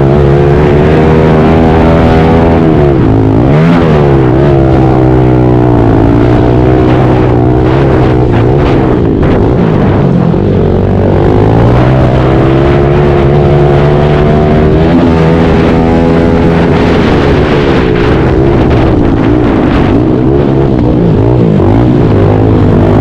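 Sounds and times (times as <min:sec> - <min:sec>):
pit bike engines revving: 0:00.0 - 0:23.0.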